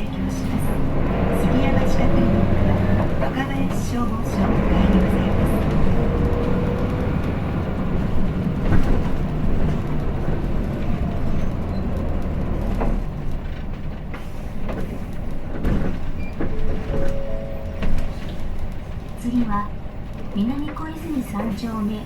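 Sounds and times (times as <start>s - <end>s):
road noise: 0.0s - 21.2s
bus diesel engine rumble: 0.0s - 22.0s.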